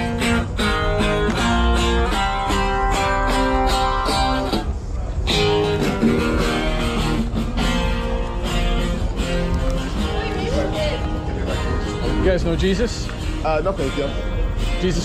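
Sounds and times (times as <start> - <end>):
guitar chords strummed: 0.0 - 15.0.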